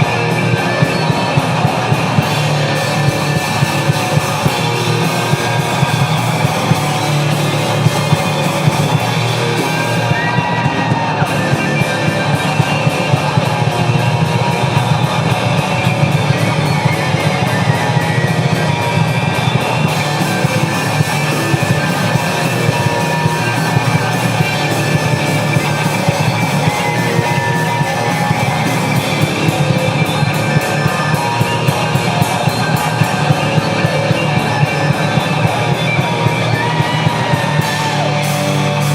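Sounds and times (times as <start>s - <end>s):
loud rock music: 0.0s - 38.9s.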